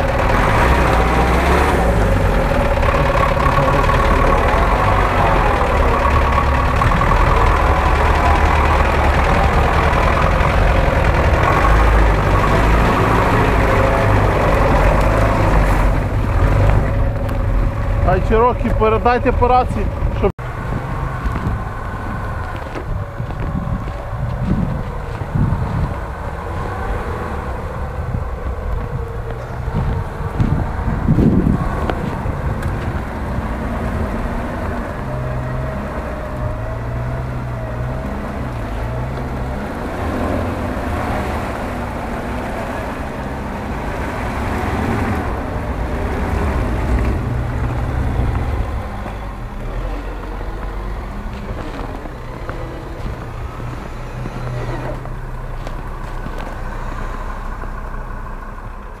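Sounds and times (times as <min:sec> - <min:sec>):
car engine revving in mud: 0:00.0 - 0:59.0.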